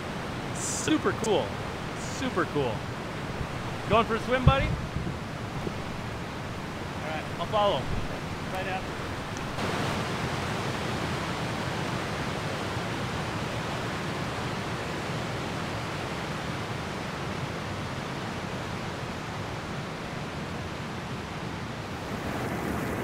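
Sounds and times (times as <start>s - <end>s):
river rapids rushing over rocks: 0.0s - 23.0s.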